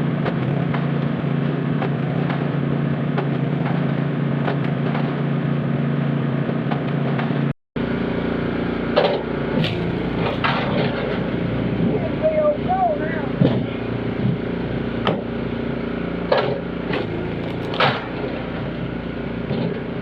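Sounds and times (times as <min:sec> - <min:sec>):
engine knocking and clattering: 0:00.0 - 0:07.5, 0:08.9 - 0:15.4, 0:16.2 - 0:20.0
small gasoline engine running: 0:00.0 - 0:20.0.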